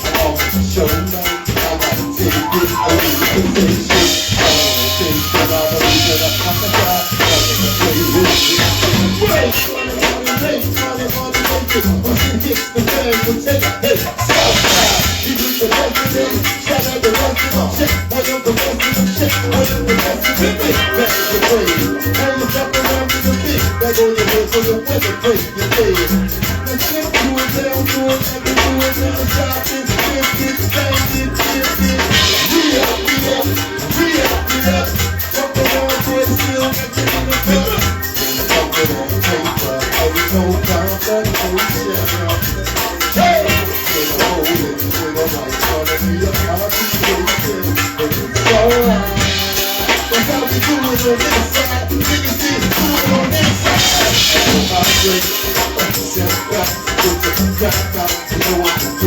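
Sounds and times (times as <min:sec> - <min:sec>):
band playing: 0:00.0 - 0:59.0
bass line: 0:00.0 - 0:59.0
percussion beat: 0:00.0 - 0:59.0.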